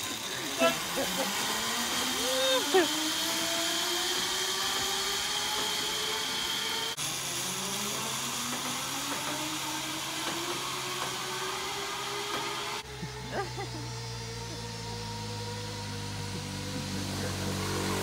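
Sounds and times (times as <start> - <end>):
zipline pulleys whirring on cable: 0.0 - 18.0.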